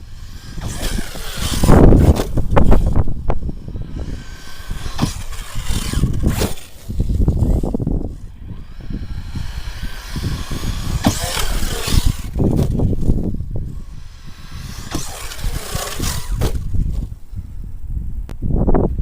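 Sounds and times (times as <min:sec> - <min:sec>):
rc truck motor whining: 0:00.0 - 0:17.8
low rumbling noise: 0:00.0 - 0:19.0.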